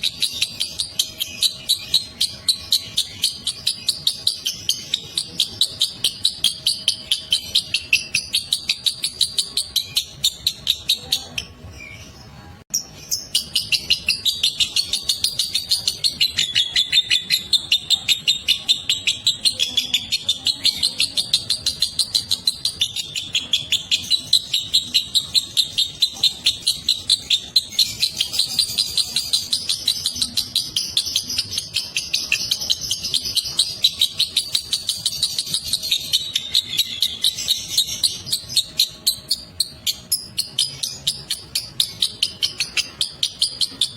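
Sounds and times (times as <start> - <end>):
lovebird chattering call: 0.0 - 11.6, 13.0 - 43.9.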